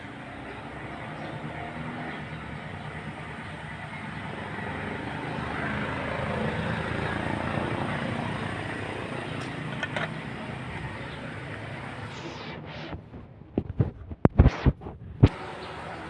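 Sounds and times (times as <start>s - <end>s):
motor vehicle engine running: 0.0s - 16.0s.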